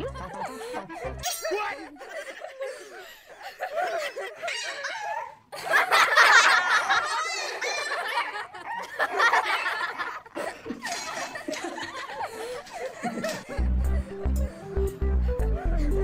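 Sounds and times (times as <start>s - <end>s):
people laughing: 0.0s - 16.0s.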